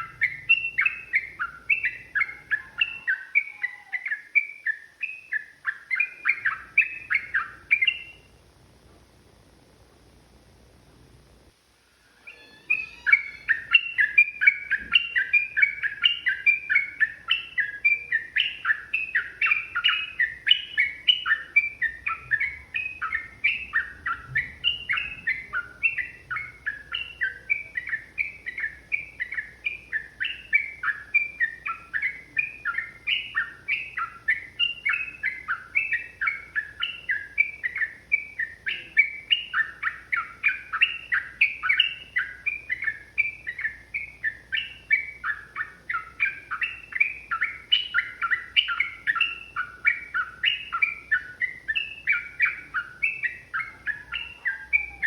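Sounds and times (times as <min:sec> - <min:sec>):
bird singing fast chirping notes: 0:00.0 - 0:08.4, 0:12.1 - 0:55.0.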